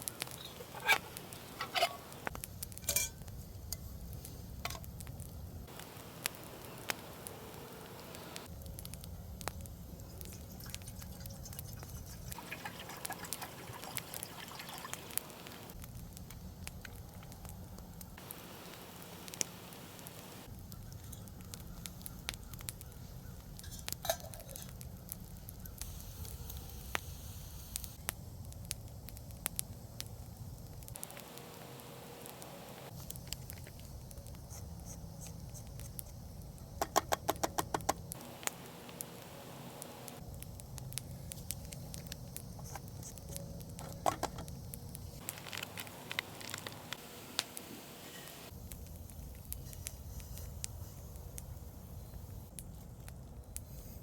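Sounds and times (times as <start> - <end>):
wood campfire crackling: 0.0 - 54.0.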